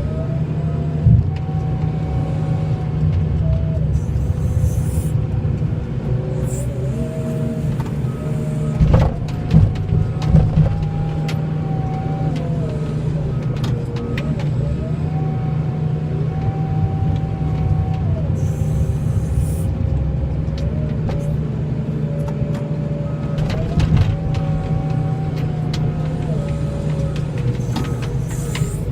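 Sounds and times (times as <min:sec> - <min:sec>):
high whine changing pitch: 0:00.0 - 0:28.9
vehicle engine running: 0:00.0 - 0:28.9.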